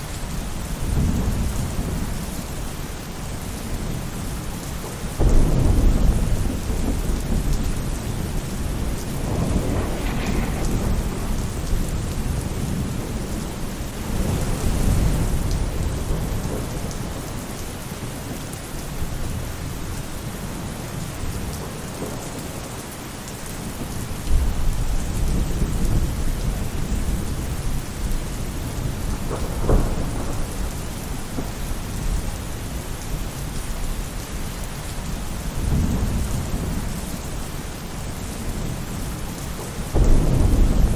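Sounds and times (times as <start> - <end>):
rain falling on a roof: 0.0 - 40.9
thunder rumbling: 0.3 - 18.4, 23.4 - 40.9.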